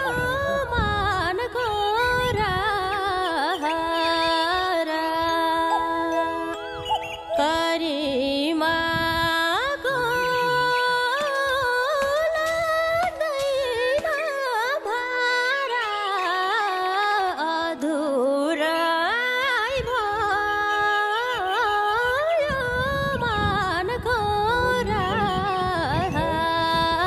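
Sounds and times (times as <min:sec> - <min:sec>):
person singing ornamented melody: 0:00.0 - 0:27.0.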